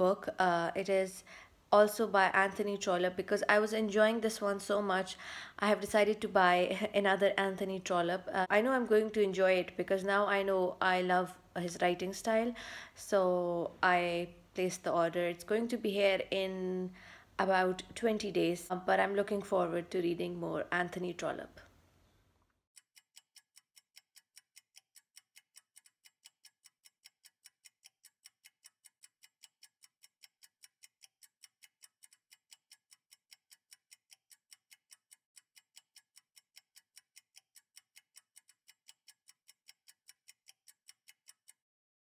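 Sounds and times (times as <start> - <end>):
clock ticking fast: 0.0 - 21.6, 22.8 - 41.6.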